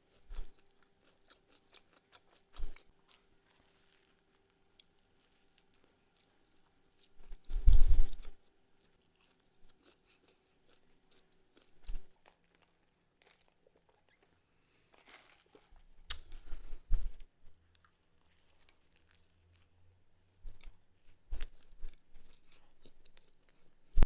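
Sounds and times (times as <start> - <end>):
chewing and crunching food: 0.0 - 24.0.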